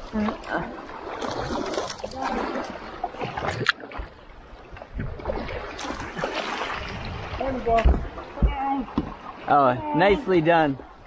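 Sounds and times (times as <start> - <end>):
paddle strokes splashing: 0.0 - 11.0
water rushing past hull: 0.0 - 11.0.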